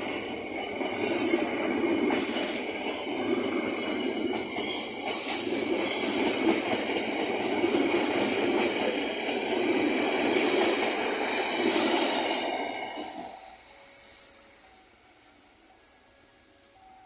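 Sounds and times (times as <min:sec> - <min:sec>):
train wheels rumbling: 0:00.0 - 0:13.8.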